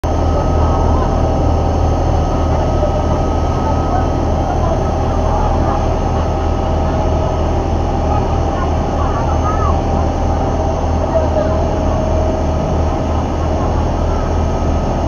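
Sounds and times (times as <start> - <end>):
boat engine droning: 0.0 - 15.0
water rushing along hull: 0.0 - 15.0.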